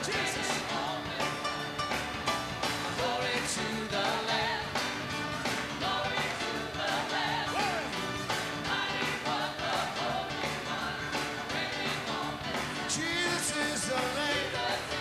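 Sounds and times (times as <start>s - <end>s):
voices singing along: 0.0s - 1.8s, 2.9s - 15.0s
worship music on electronic keyboard: 0.0s - 15.0s.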